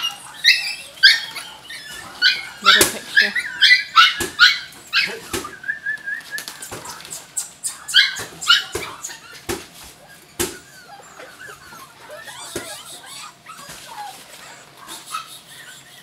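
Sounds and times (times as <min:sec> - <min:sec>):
puppies yipping and whining: 0:00.0 - 0:16.0.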